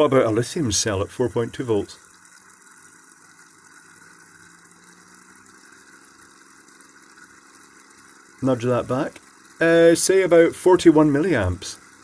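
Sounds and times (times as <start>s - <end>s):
air pump humming: 0.0s - 12.0s.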